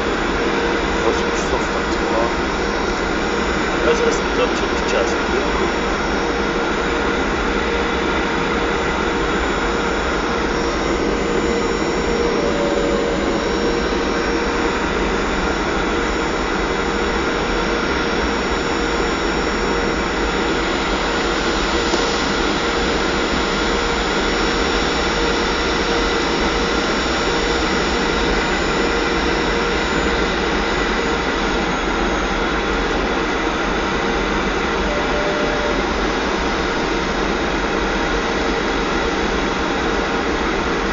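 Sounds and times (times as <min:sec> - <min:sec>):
jet engines and airflow in cabin: 0:00.0 - 0:40.9.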